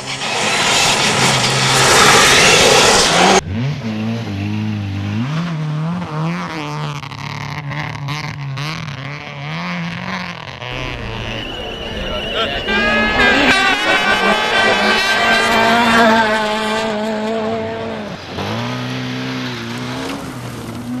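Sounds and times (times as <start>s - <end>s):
rally car passing close: 0.2s - 21.0s
rally car engine revving: 0.4s - 21.0s.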